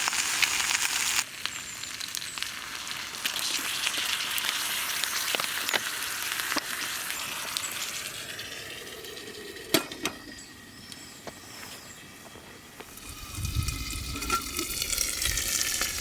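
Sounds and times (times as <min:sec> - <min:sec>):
food sizzling in a pan: 0:00.0 - 0:10.5, 0:12.9 - 0:16.0.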